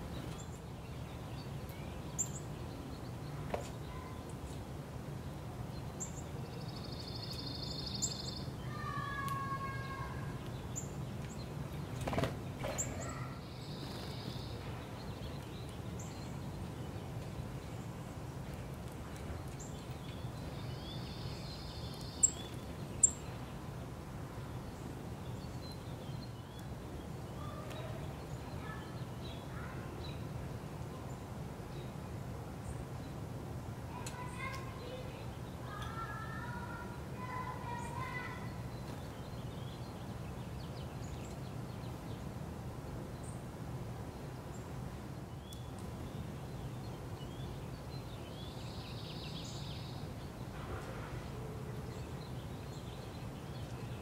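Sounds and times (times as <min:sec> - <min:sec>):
songbirds calling: 0:00.0 - 0:54.0.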